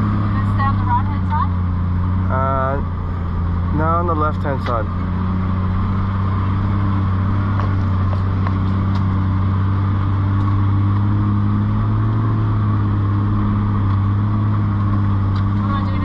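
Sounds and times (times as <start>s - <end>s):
engine droning inside cabin: 0.0s - 16.0s.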